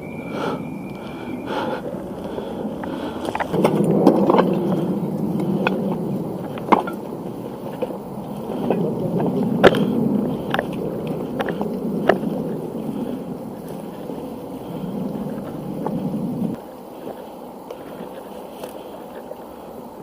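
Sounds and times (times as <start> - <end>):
rustling and scuffing of gear: 1.8 - 19.4.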